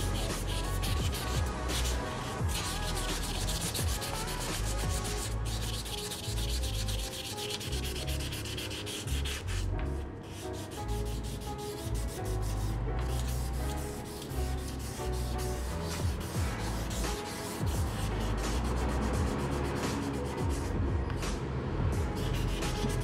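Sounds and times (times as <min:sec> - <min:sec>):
sandpaper sanding painted metal: 0:00.0 - 0:20.7, 0:22.2 - 0:23.0.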